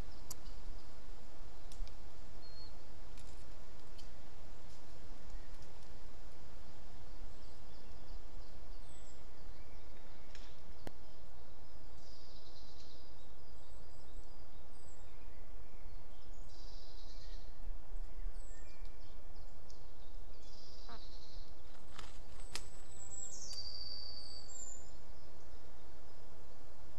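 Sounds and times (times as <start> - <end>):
small birds singing: 0.0 - 6.0, 6.7 - 26.4.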